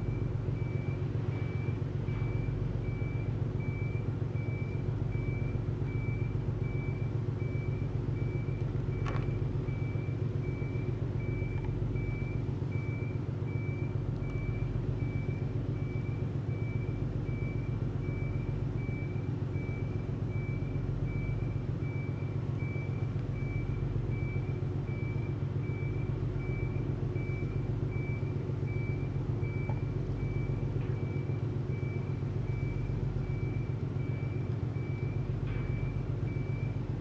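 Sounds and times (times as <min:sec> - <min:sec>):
diesel engine rumble: 0:00.0 - 0:37.0.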